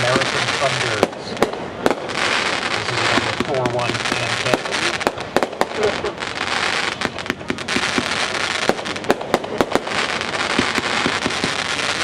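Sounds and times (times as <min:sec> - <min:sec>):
firework bangs and pops: 0:00.0 - 0:12.0
firework hiss: 0:00.0 - 0:12.0.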